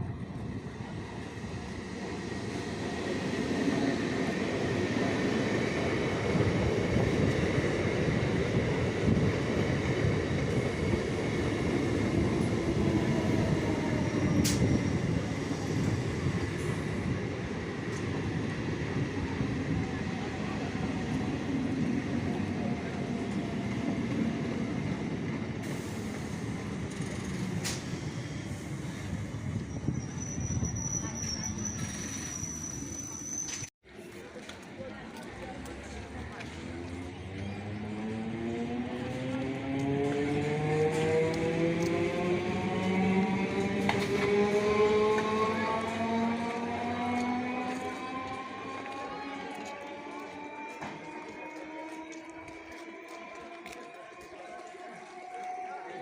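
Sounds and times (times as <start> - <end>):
train rumble and wheel clatter: 0.0 - 56.0.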